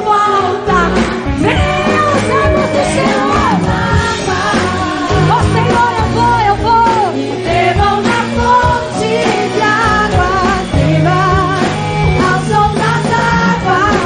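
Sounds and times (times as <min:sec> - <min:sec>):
bass and drums: 0:00.0 - 0:14.0
worship song singing: 0:00.0 - 0:14.0.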